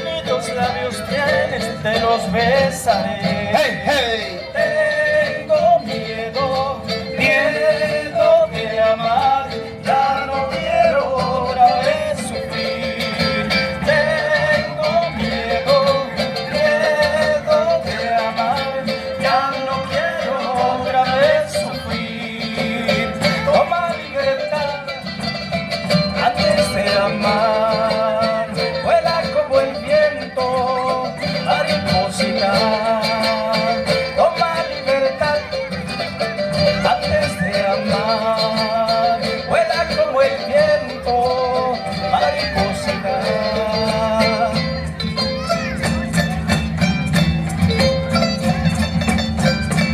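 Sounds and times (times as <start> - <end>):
bass and rhythm accompaniment: 0.0 - 49.9.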